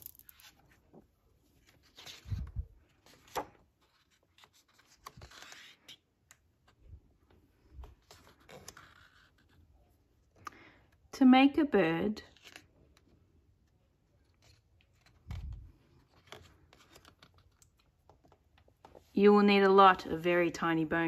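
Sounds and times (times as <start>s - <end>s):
book pages rustling: 0.3s - 10.5s, 12.3s - 19.2s.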